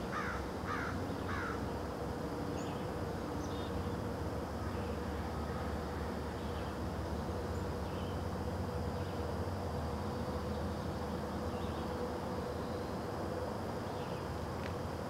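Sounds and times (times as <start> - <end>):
faint steady hum: 0.0 - 15.0
high insect drone: 0.0 - 15.0.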